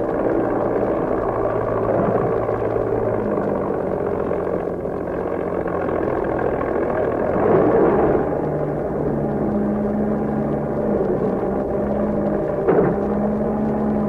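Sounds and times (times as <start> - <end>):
droning background score: 0.0 - 14.0.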